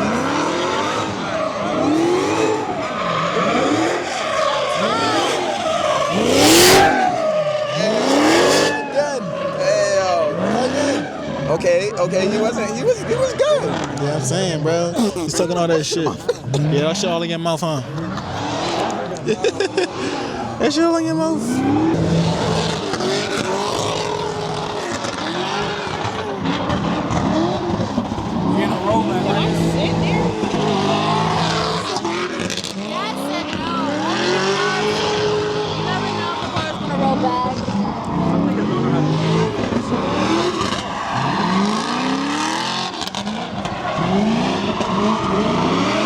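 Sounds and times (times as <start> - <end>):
car engine revving hard: 0.0 - 15.8, 16.6 - 46.0
tyres skidding: 0.0 - 46.0.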